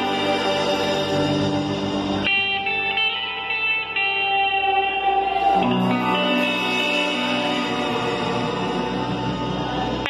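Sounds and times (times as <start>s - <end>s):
surf rock electric guitars: 0.0s - 10.0s.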